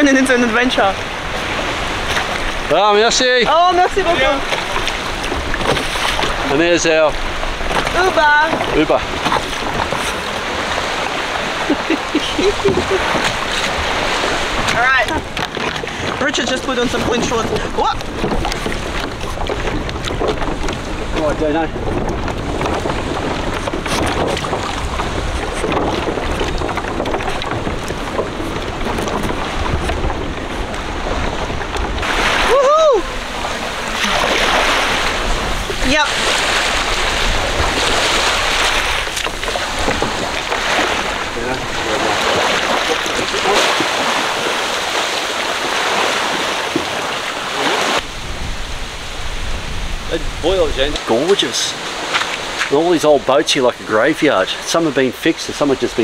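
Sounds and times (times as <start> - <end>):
small waves washing on beach: 0.0 - 56.0
wind buffeting microphone: 0.0 - 56.0.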